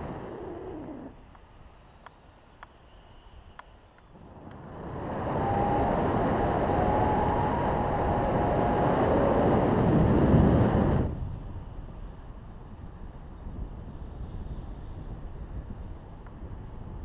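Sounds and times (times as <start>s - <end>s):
wind rushing over microphone: 0.0s - 1.2s, 4.1s - 17.0s.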